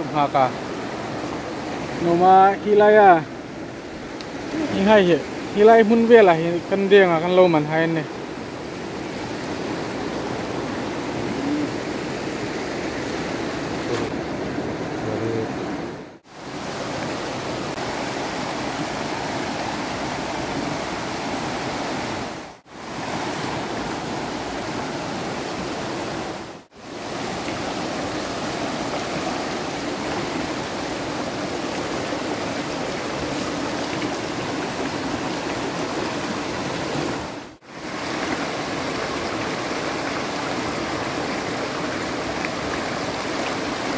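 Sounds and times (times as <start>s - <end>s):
river rushing over stones: 0.0s - 43.9s.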